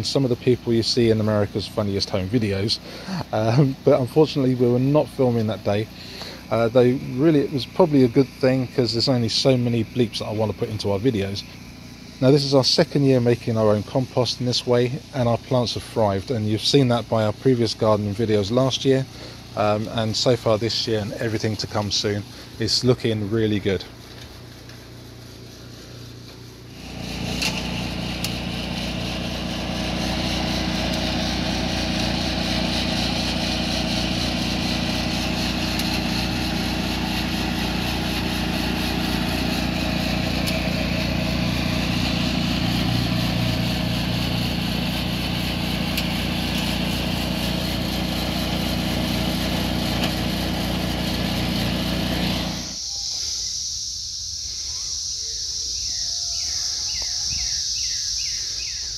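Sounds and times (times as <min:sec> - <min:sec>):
small petrol engine running: 0:00.0 - 0:16.2, 0:16.8 - 0:52.8.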